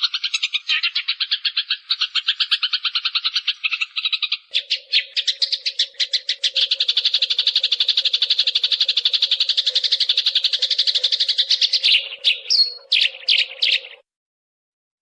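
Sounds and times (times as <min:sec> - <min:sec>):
sparrow chirping rapidly: 0:00.0 - 0:14.0.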